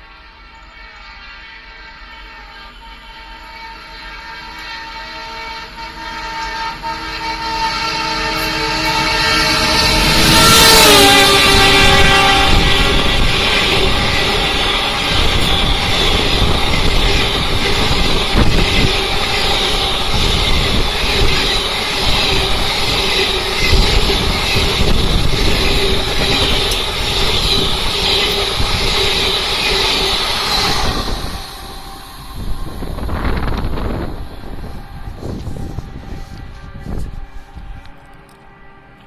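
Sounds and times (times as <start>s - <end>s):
train wheels rumbling and rattling: 5.3s - 39.0s.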